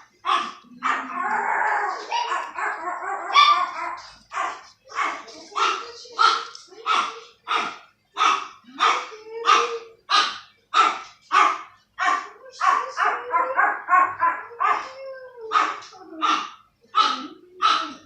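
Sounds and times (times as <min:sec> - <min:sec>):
dog barking: 0:00.2 - 0:01.1, 0:02.2 - 0:14.9, 0:15.5 - 0:18.0.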